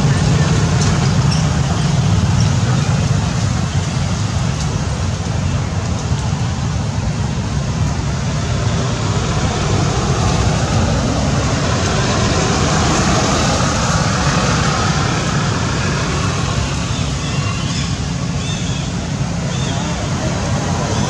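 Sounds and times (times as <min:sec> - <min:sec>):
loud rushing noise: 0:00.0 - 0:21.0.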